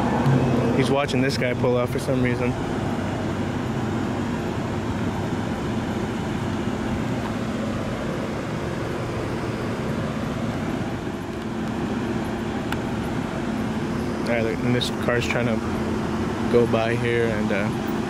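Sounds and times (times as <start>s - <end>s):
car engines idling: 0.0s - 18.0s
street traffic: 0.0s - 18.0s.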